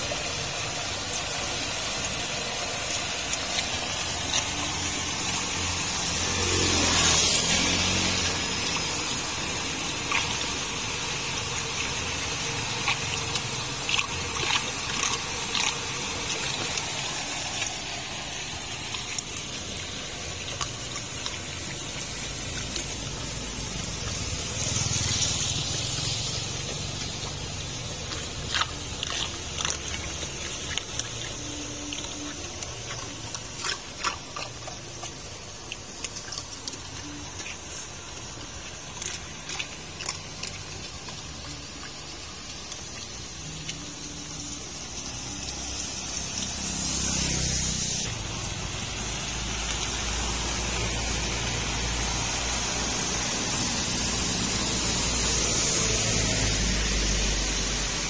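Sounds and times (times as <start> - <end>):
water gushing into drain grate: 0.0 - 58.0.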